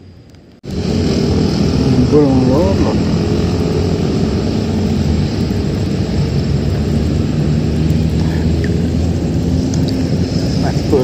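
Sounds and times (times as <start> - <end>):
traffic drone on bridge: 0.0 - 11.0.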